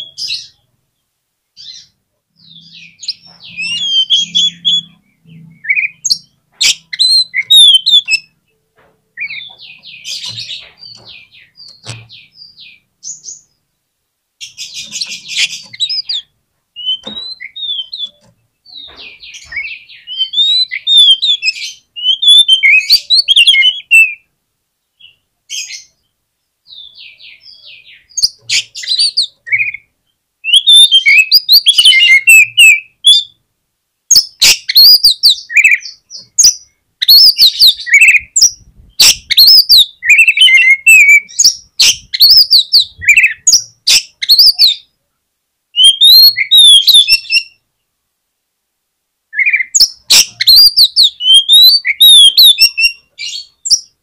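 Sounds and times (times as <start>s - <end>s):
magpie-robin singing: 0.0s - 0.7s, 1.6s - 8.6s, 9.2s - 13.6s, 14.4s - 24.3s, 26.7s - 33.4s, 34.1s - 44.9s, 45.8s - 47.6s, 49.3s - 54.0s.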